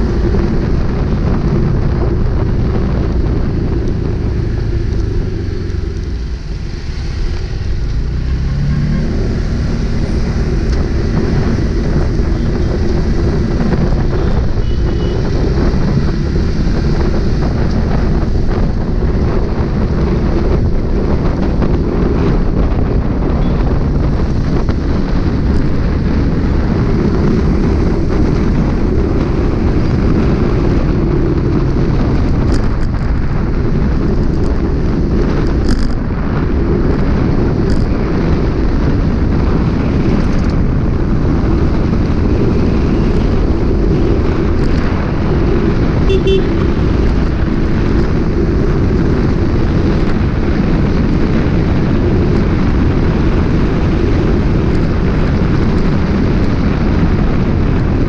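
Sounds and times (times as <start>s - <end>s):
vehicle engine running: 0.0s - 58.0s
wind noise on microphone: 0.0s - 58.0s.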